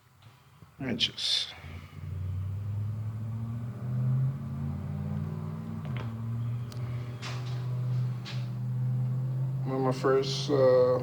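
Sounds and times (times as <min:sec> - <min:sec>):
low motor drone: 0:01.8 - 0:11.0.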